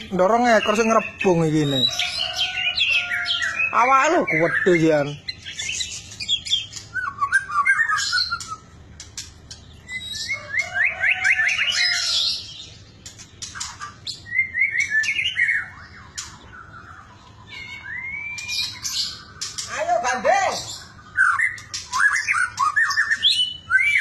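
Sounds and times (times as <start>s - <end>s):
bird singing: 0.0s - 24.0s.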